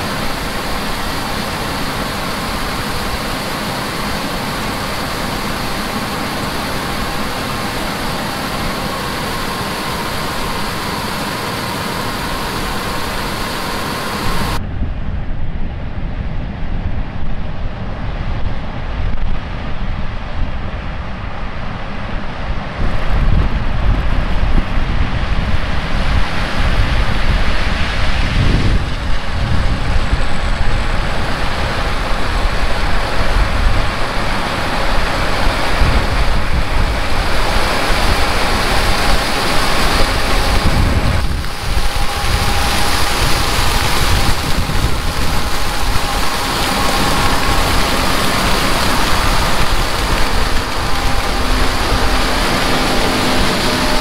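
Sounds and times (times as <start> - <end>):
running vehicle or machine: 0.0 - 14.7, 17.5 - 54.0
wind buffeting microphone: 0.0 - 54.0.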